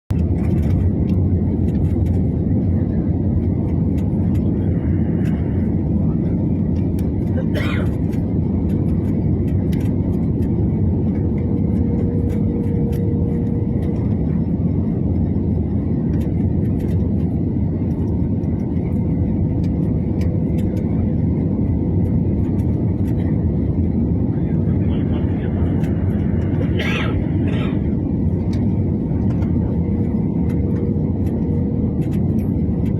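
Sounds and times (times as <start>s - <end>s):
airliner engine rumble: 0.0s - 32.9s
faint hum: 0.1s - 32.9s.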